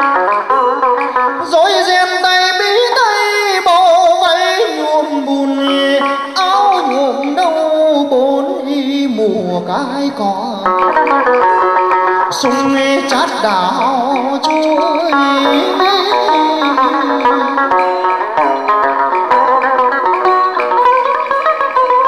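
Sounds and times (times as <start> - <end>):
man singing with vibrato: 0.0 - 22.0
plucked lute: 0.0 - 22.0.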